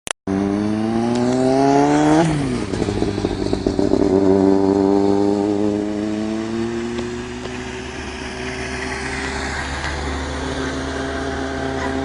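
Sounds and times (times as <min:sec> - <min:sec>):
motorcycle engine accelerating: 0:00.3 - 0:12.0.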